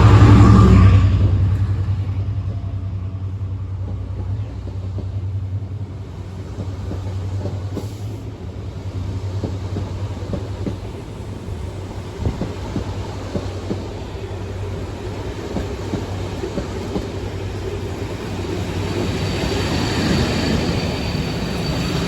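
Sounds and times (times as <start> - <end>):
diesel locomotive drone: 0.0 - 22.0.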